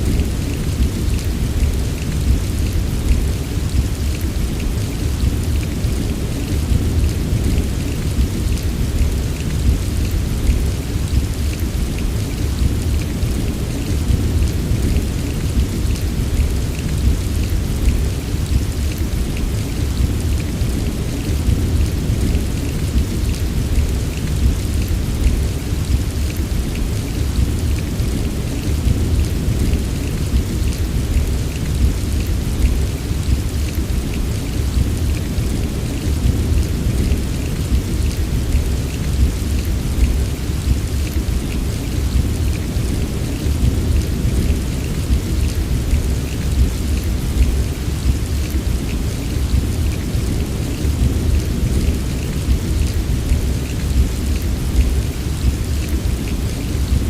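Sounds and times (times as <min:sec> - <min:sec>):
deep continuous rumble: 0:00.0 - 0:57.0
steady rain: 0:00.0 - 0:57.0.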